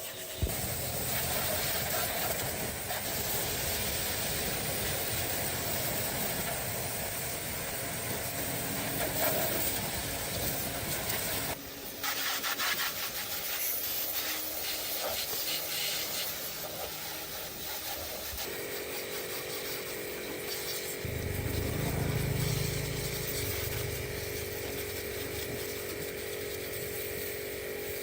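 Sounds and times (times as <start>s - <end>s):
loud hissing spray: 0.0s - 28.0s.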